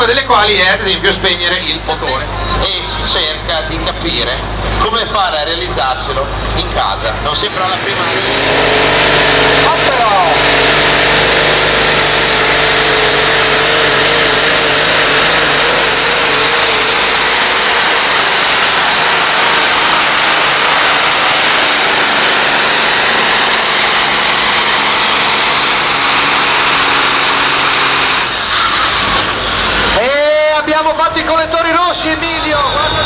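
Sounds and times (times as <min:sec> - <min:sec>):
tractor engine running flat out: 0:00.0 - 0:33.0.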